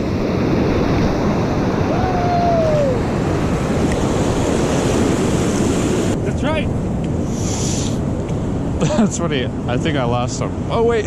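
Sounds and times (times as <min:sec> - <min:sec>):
ocean surf: 0:00.0 - 0:11.0
wind on microphone: 0:00.0 - 0:11.0.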